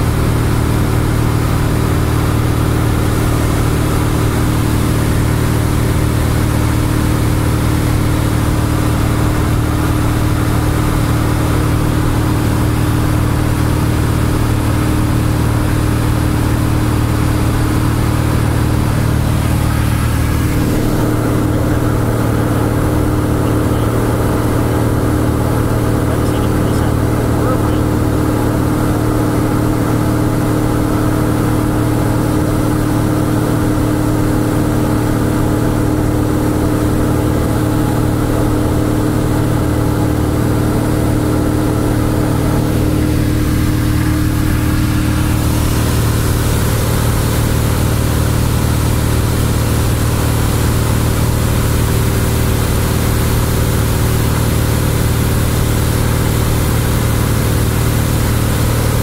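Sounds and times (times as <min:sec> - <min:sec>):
airplane engine drone in cabin: 0:00.0 - 0:59.0.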